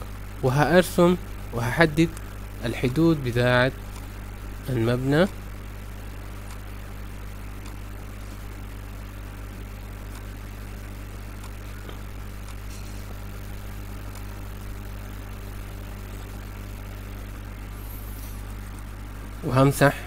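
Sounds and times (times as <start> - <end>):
low electrical hum and hiss: 0.0 - 20.0.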